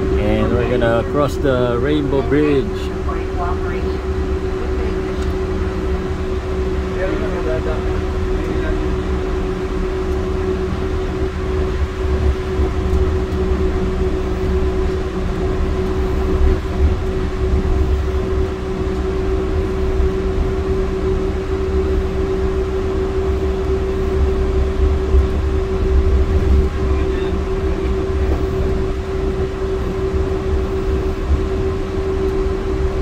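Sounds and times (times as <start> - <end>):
train interior hum and rumble: 0.0 - 33.0.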